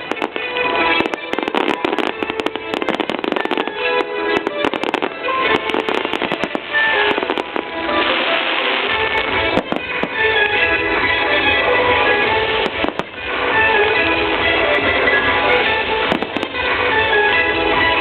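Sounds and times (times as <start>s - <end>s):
fireworks bangs and crackles: 0.0s - 18.0s
loud music: 0.0s - 18.0s.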